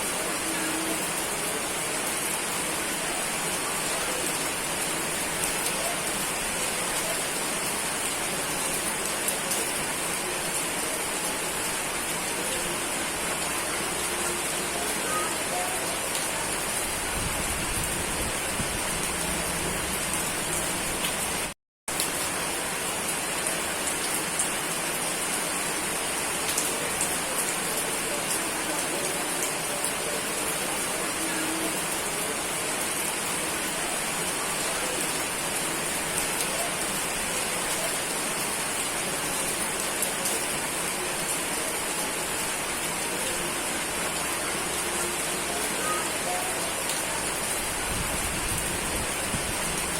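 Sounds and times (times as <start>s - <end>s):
steady rain hiss: 0.0s - 49.9s.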